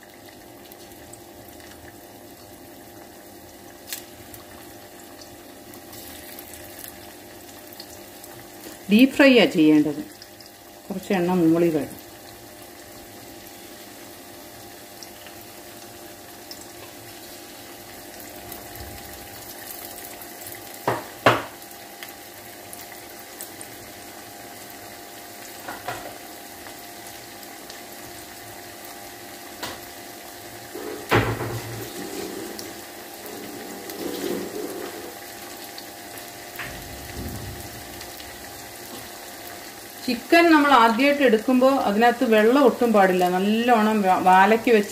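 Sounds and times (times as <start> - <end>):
chicken deep-frying in oil: 0.0 - 44.9.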